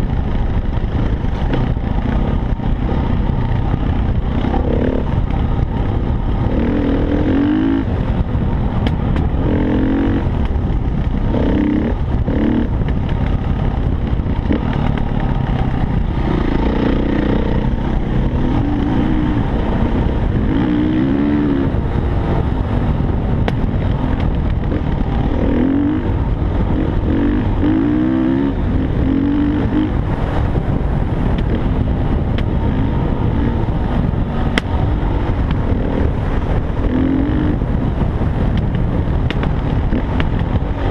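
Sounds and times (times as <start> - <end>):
dirt bike engine revving: 0.0 - 38.2.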